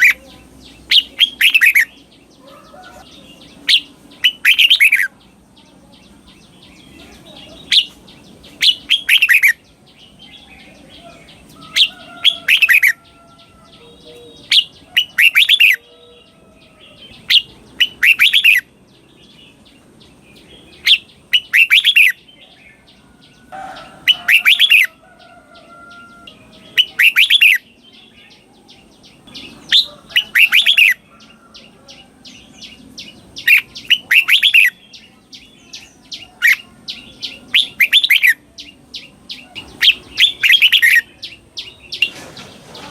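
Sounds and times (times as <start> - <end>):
faint bird chirps: 0.0 - 19.6, 20.4 - 42.9.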